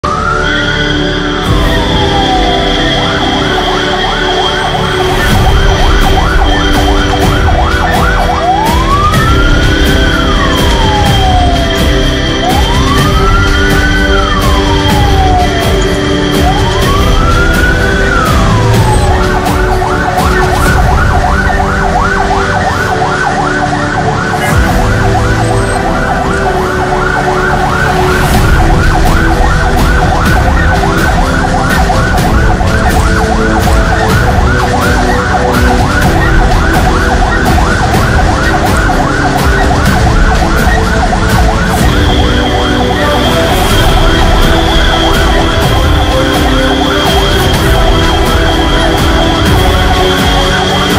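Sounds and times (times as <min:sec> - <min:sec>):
ambulance siren wailing and yelping: 0:00.0 - 0:50.9
road noise: 0:00.0 - 0:50.9.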